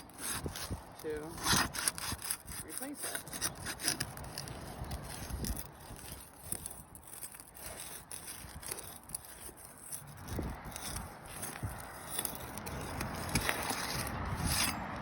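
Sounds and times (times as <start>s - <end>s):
tool scraping under roof shingles: 0.0s - 15.0s.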